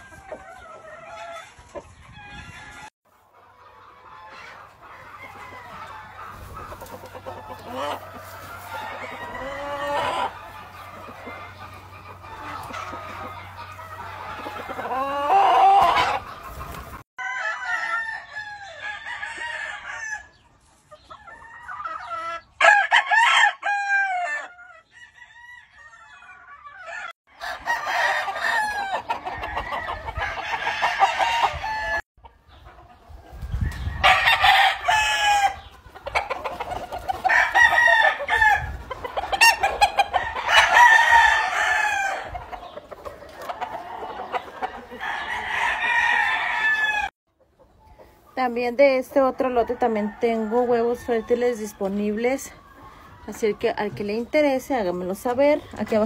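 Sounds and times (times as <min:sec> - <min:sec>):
roosters crowing: 0:00.0 - 0:20.5, 0:21.1 - 0:32.1, 0:33.3 - 0:47.2, 0:48.8 - 0:56.0.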